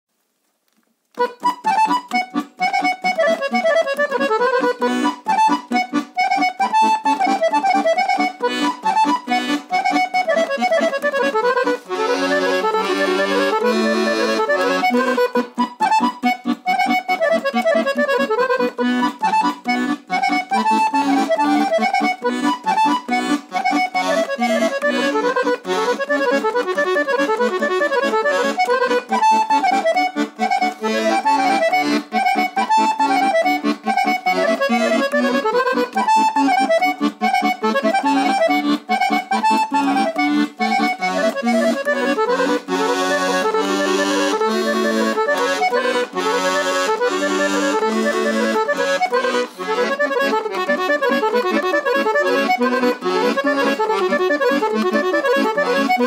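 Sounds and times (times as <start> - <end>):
accordion playing: 1.1 - 56.0.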